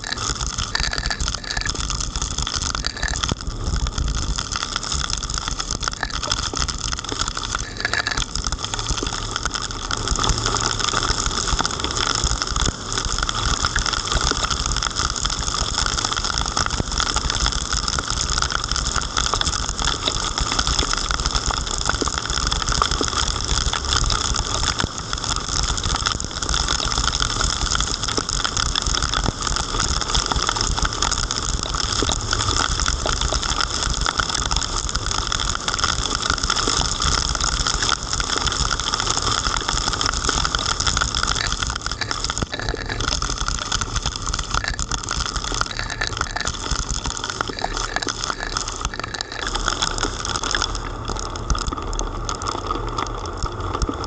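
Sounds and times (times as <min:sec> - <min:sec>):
heavy rain on camera housing: 0:00.0 - 0:54.0
low rumble: 0:00.0 - 0:54.0.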